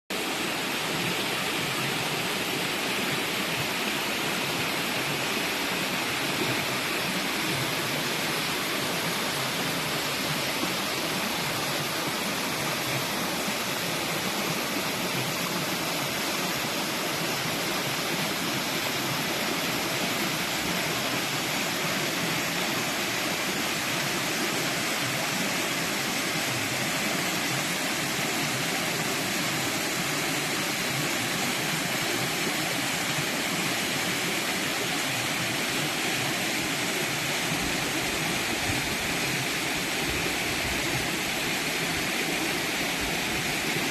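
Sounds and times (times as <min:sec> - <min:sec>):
stream water rushing: 0:00.1 - 0:43.9.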